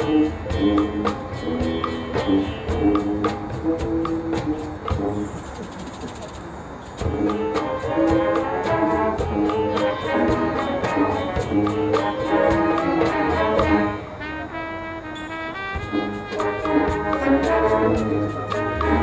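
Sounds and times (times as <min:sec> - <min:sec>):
marching band playing: 0:00.0 - 0:19.0.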